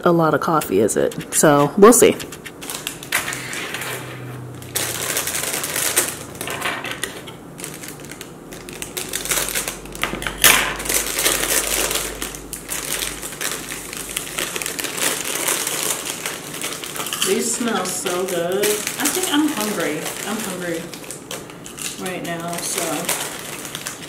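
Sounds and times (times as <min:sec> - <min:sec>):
dried chili peppers crackling: 0:00.7 - 0:24.0
plastic bag crinkling: 0:00.8 - 0:24.0.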